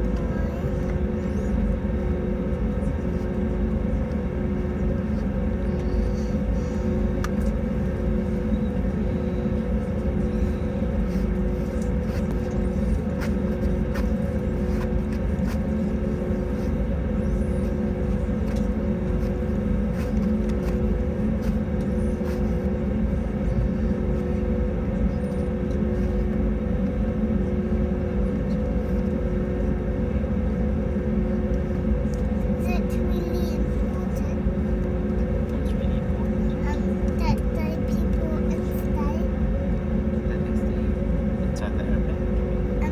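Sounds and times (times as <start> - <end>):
aircraft cabin low rumble: 0.0 - 42.9
steady hum tones: 0.0 - 42.9.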